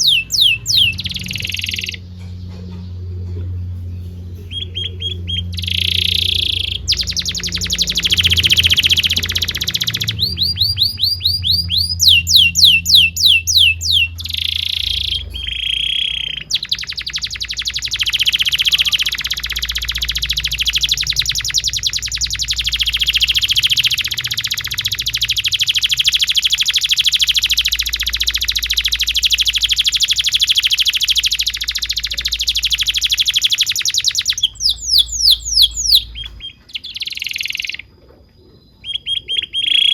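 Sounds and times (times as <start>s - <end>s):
canary singing: 0.0s - 39.9s
faint low hum: 0.0s - 39.9s.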